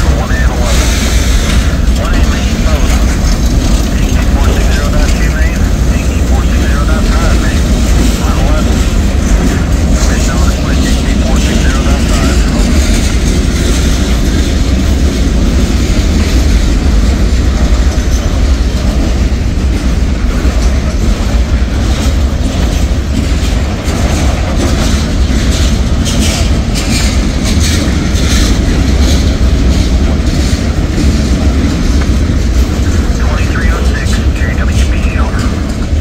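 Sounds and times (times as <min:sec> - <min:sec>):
wheels clicking over rail joints: 0:00.0 - 0:33.2
freight train rumbling past: 0:00.0 - 0:36.0.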